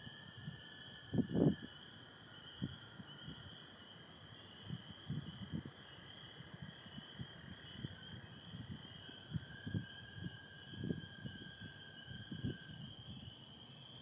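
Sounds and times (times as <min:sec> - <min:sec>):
spring peepers chorus: 0:00.0 - 0:14.0.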